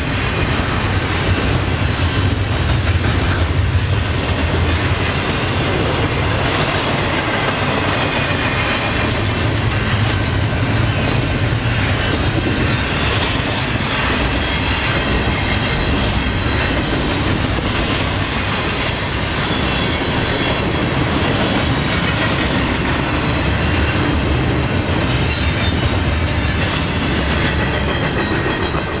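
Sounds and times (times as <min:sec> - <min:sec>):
train wheels clattering on rail: 0:00.0 - 0:29.0.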